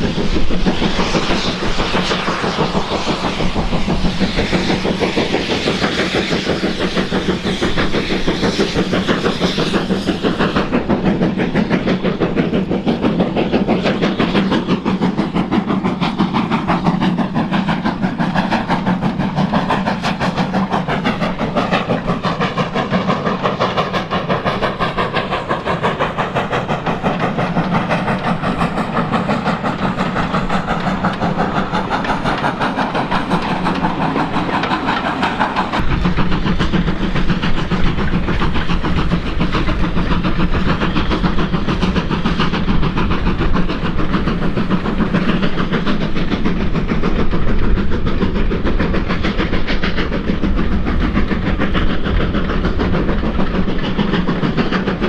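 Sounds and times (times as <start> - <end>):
carriages rolling on track: 0.0 - 55.0
steam locomotive working: 0.0 - 55.0.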